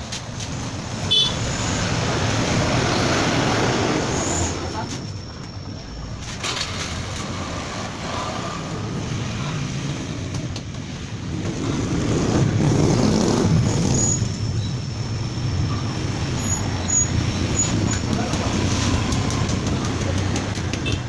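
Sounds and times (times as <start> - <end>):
road noise: 0.0 - 21.0
vehicle engine rumble: 0.0 - 21.0.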